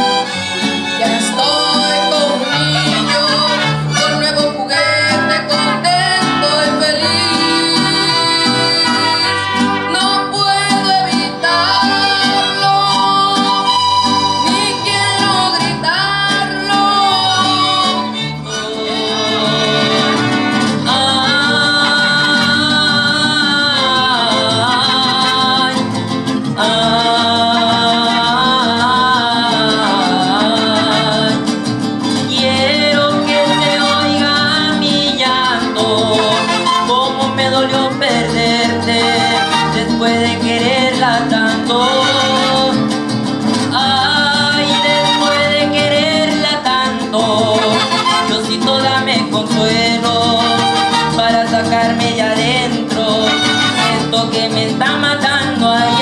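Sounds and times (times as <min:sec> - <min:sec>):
mariachi band playing: 0:00.0 - 0:56.0
boy singing: 0:01.0 - 0:25.9, 0:26.6 - 0:31.4, 0:32.3 - 0:42.8, 0:43.7 - 0:56.0.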